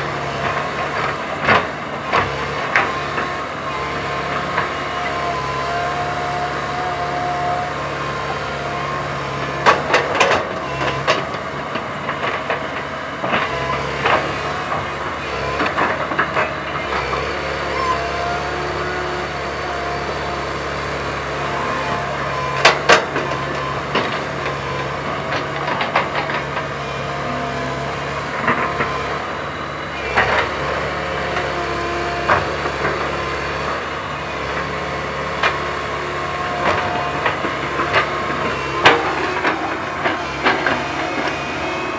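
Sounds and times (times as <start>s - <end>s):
excavator diesel engine hum: 0.0s - 41.9s.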